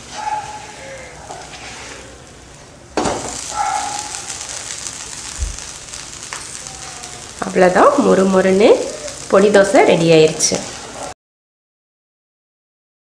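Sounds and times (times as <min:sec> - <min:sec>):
dosa sizzling on a griddle: 0:00.0 - 0:11.2.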